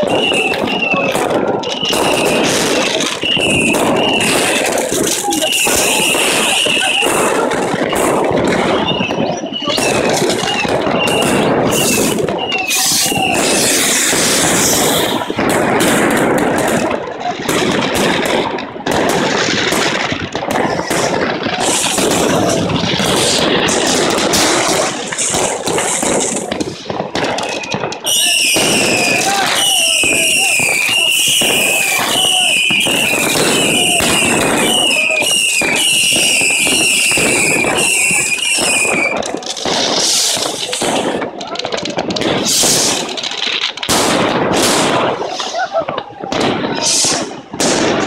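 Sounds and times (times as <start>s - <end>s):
firecrackers cracking and banging: 0.0s - 48.0s.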